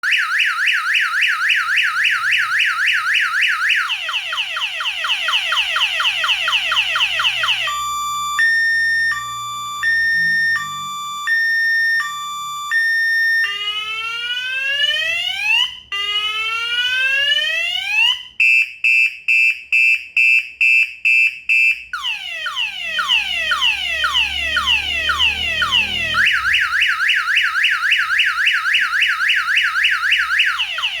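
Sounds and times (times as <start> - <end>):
electronic alarm siren: 0.0 - 19.1, 19.8 - 31.0.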